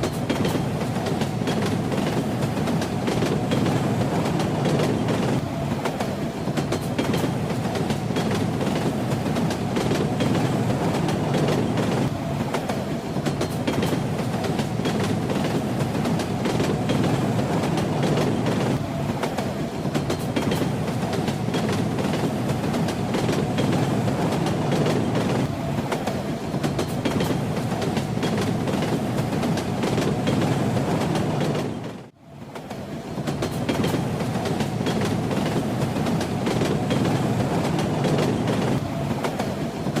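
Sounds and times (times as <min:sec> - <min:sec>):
railway carriage rumbling: 0:00.0 - 0:40.0.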